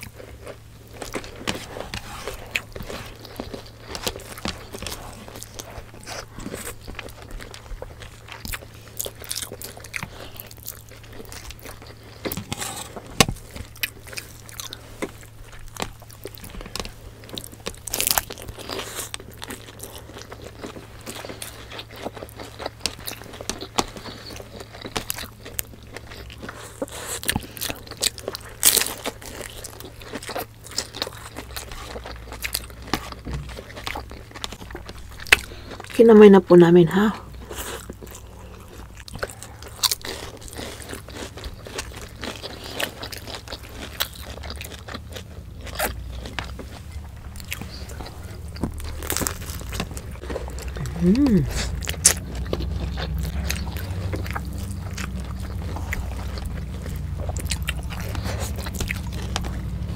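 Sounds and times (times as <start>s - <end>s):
crunchy chewing of fried food: 0.0s - 59.9s
faint low hum: 0.0s - 59.9s.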